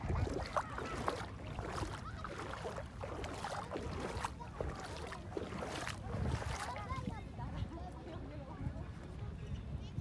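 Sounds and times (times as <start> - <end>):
faint voices: 0.0 - 10.0
wind on microphone: 0.0 - 10.0.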